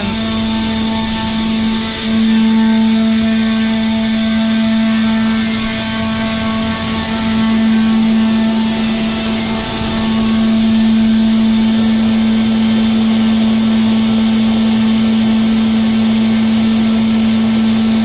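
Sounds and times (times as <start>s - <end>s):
air blowing corn through tubes: 0.0s - 18.0s
grain blower hum: 0.0s - 18.0s.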